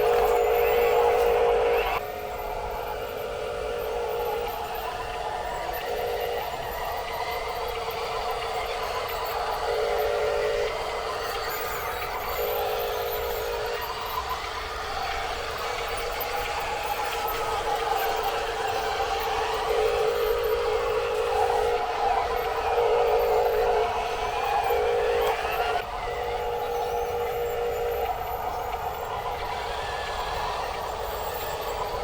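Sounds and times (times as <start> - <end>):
small electric motors whining: 0.0 - 32.0.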